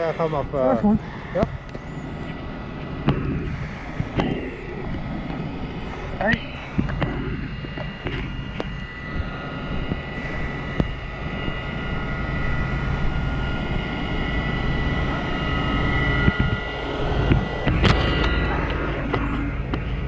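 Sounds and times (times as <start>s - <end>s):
diesel engine drone: 0.0s - 20.0s
high pump whine: 0.0s - 20.0s.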